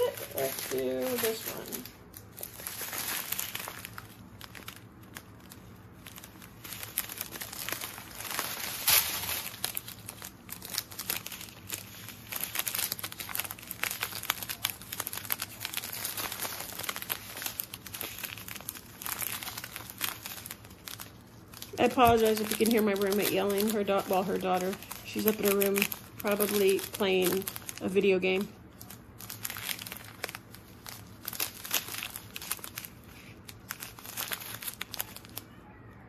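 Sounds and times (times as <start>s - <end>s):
plastic bags crinkling: 0.0s - 35.6s.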